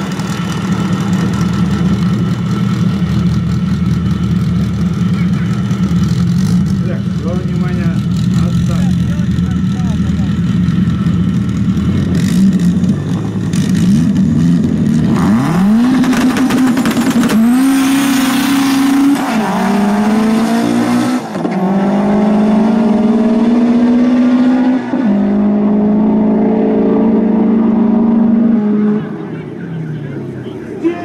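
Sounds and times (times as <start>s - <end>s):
car engine accelerating hard: 0.0s - 30.9s.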